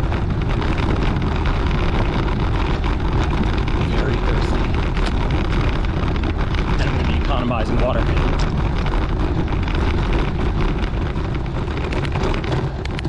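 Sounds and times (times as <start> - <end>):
bike rattling and clicking: 0.0 - 13.0
tyres rolling over broken pavement: 0.0 - 13.0
wind on microphone: 0.0 - 13.0.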